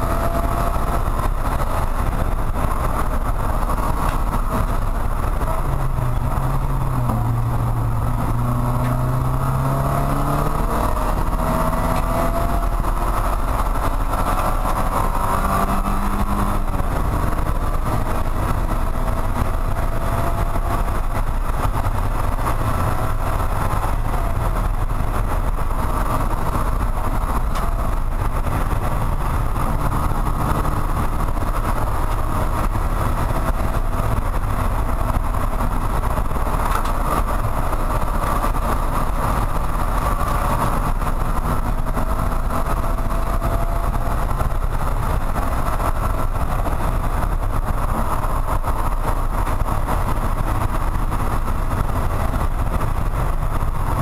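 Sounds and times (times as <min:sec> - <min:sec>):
car engine running hard: 0:00.0 - 0:54.0
wind and road noise: 0:00.0 - 0:54.0.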